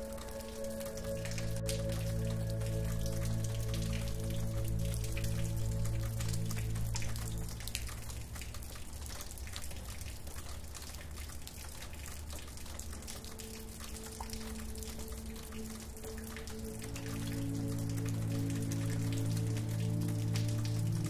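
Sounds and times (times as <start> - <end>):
rain pattering and dripping: 0.0 - 21.0
soft held music tone: 0.0 - 21.0.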